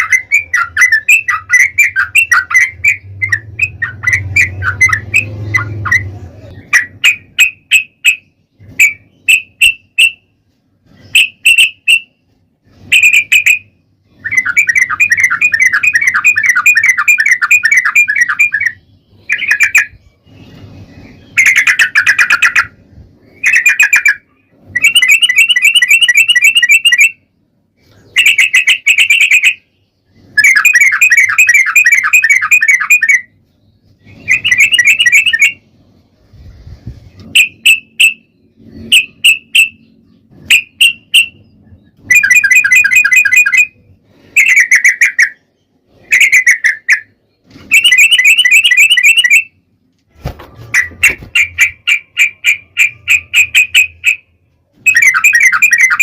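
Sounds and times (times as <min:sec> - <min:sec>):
bird chattering song: 0:00.0 - 0:36.0, 0:36.9 - 0:49.6, 0:50.8 - 0:56.0.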